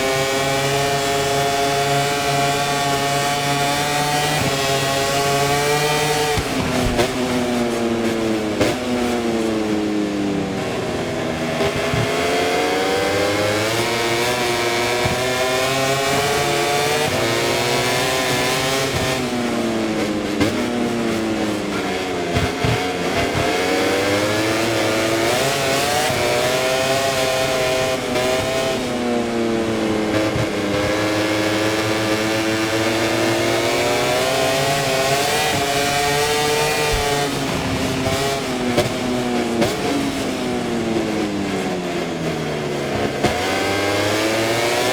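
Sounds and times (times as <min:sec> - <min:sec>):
racing motorcycle engine revving: 0:00.0 - 0:44.9.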